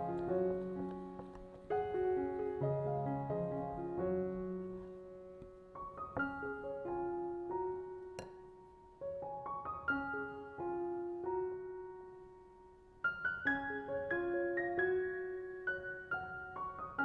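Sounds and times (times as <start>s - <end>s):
gentle solo piano music: 0.0s - 17.0s.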